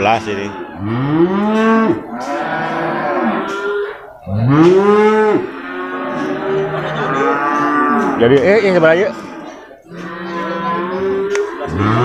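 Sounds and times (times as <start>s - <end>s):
cattle mooing: 0.0s - 12.0s.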